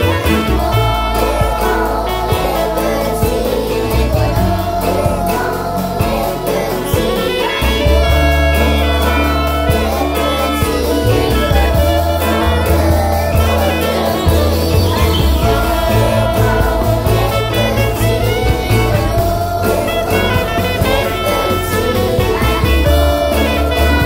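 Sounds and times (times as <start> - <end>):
children singing: 0.0 - 24.0
instrumental accompaniment with beat: 0.0 - 24.0.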